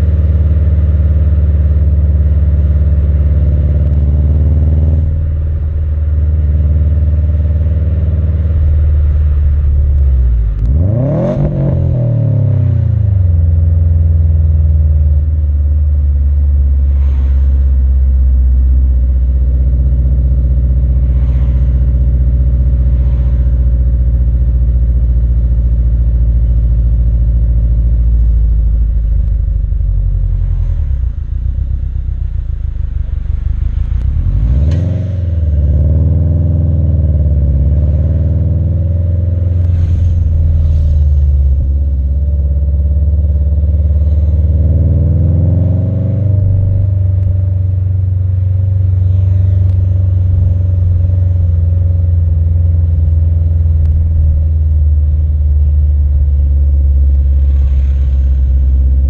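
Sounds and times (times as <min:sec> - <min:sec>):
car exhaust low drone: 0:00.0 - 0:59.0.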